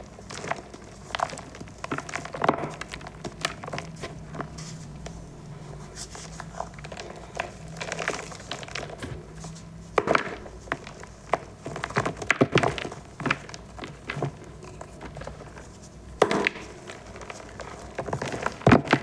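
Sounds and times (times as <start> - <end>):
chalk balls crunching: 0.0 - 19.0.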